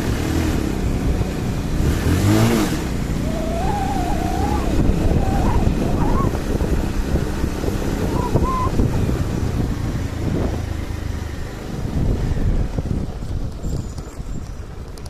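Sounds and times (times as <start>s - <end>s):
scooter engine drone: 0.0s - 13.5s
tyres rumbling over bumpy ground: 0.0s - 15.0s.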